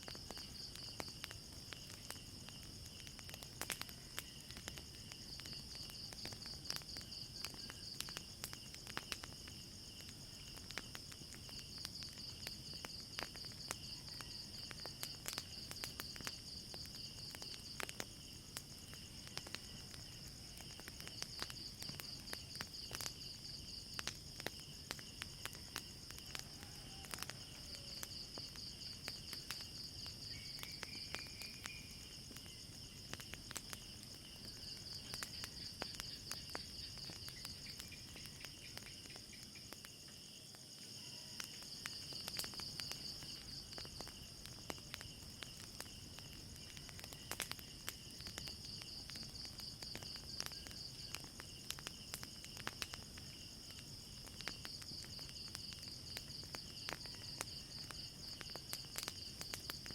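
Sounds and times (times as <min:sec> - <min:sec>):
crickets trilling: 0:00.0 - 0:59.9
fire popping and crackling: 0:00.0 - 0:59.9.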